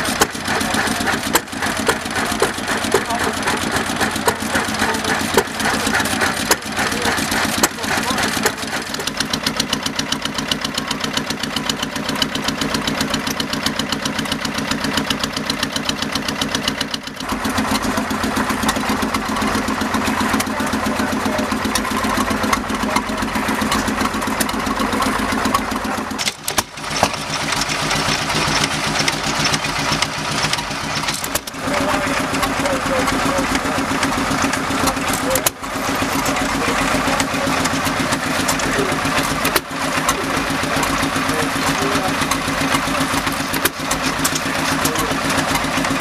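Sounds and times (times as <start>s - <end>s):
stationary engines running: 0.0s - 46.0s.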